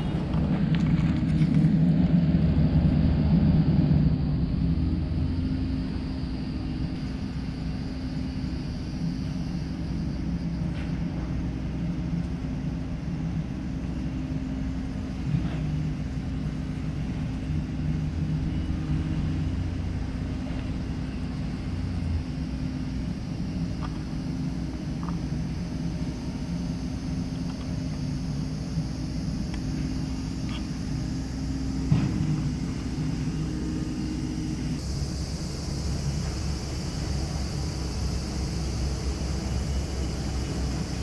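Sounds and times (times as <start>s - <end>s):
constant low hum: 0.0s - 41.0s
low mechanical rumble: 0.0s - 41.0s.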